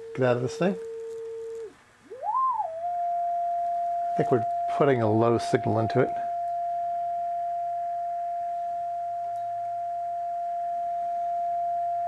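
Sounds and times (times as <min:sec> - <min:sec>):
steady test tone from speaker: 0:00.0 - 0:12.0.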